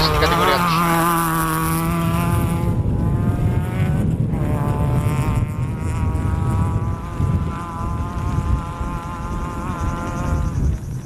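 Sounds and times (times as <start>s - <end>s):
car engine revving hard: 0.0s - 10.3s
low car rumble: 0.0s - 11.0s.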